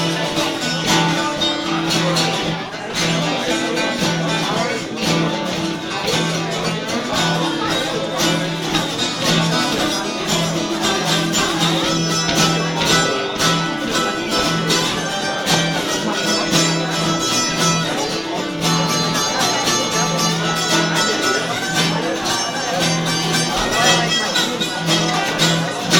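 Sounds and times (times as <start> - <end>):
live bluegrass band playing: 0.0 - 25.9.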